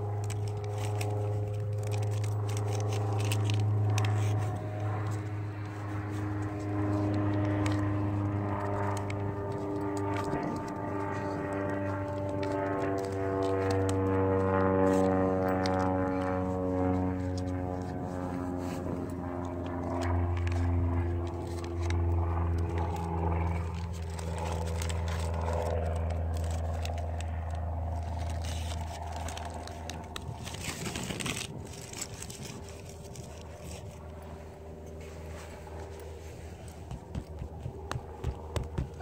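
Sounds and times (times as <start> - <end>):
low engine-like drone: 0.0 - 39.0
tape crackling and scraping: 0.0 - 39.0.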